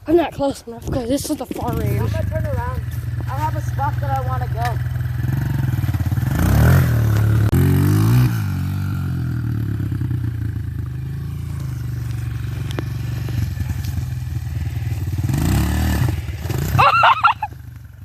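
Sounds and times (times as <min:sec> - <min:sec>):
dirt bike engine revving: 0:01.5 - 0:18.0.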